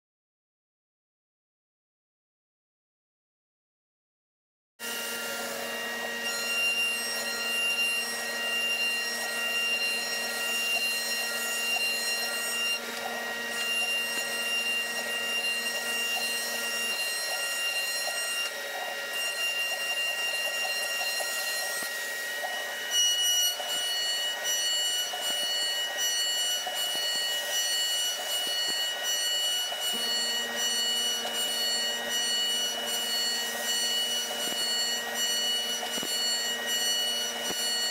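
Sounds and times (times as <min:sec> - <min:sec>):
milling machine whine: 0:04.8 - 0:37.9.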